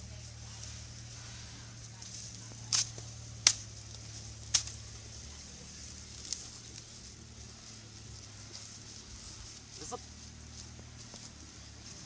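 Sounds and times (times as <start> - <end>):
elephant chewing crunches: 0.6 - 12.0.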